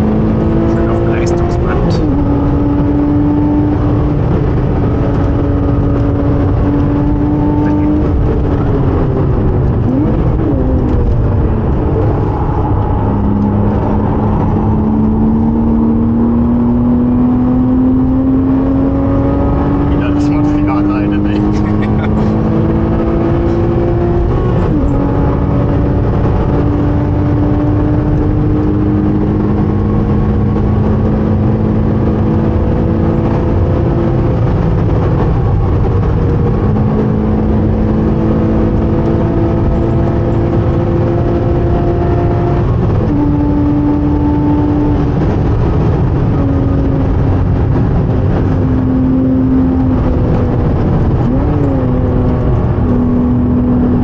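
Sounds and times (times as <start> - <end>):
car engine under load: 0.0 - 54.0
road and wind noise: 0.0 - 54.0.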